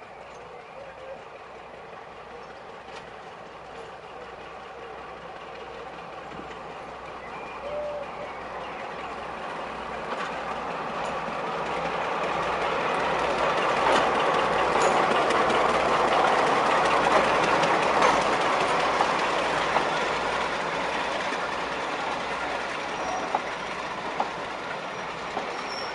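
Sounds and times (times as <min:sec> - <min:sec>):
diesel locomotive engines: 0:00.0 - 0:25.9
wheels clicking over rail joints: 0:02.2 - 0:07.0, 0:08.7 - 0:25.9.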